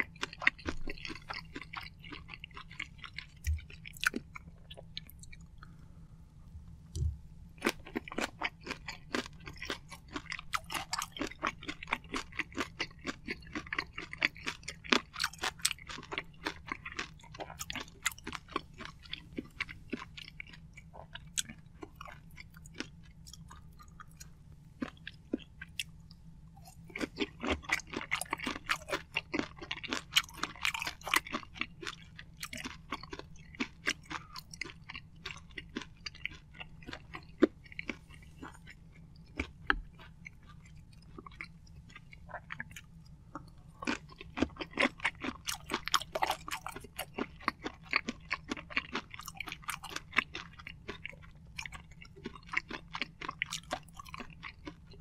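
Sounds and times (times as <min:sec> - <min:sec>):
wet chewing clicks: 0:00.0 - 0:05.8, 0:07.0 - 0:55.0.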